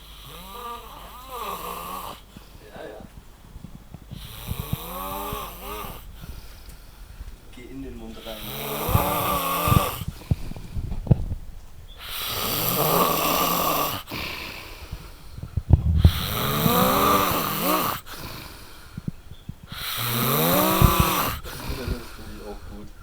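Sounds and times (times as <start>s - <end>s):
man snoring: 0.0s - 3.0s, 4.1s - 6.6s, 7.8s - 10.9s, 12.0s - 19.1s, 19.7s - 22.9s.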